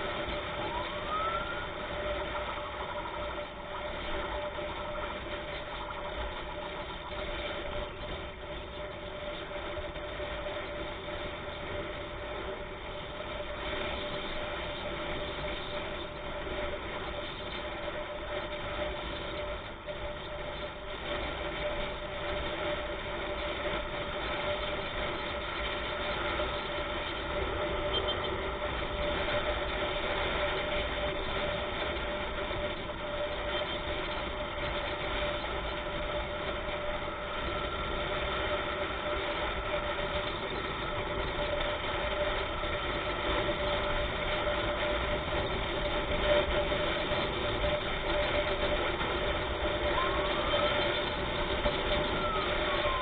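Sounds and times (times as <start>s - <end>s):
road noise: 0.0s - 53.0s
vehicle engine running: 0.0s - 53.0s.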